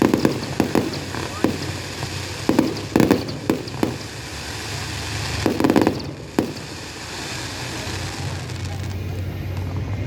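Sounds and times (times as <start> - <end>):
crackling fireworks reports: 0.0 - 10.0
fireworks bangs: 0.0 - 10.0.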